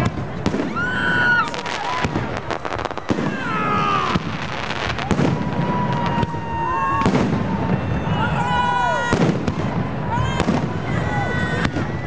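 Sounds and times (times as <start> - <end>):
fireworks bangs and crackling: 0.0 - 12.0
whistling fireworks: 0.0 - 12.0.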